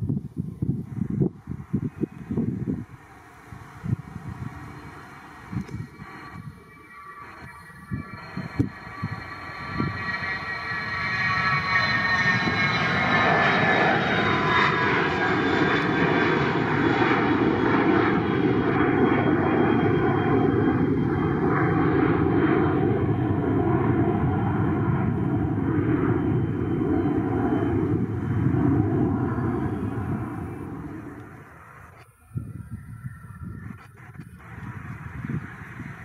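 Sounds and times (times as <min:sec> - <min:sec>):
jet engine whine: 0:00.0 - 0:36.0.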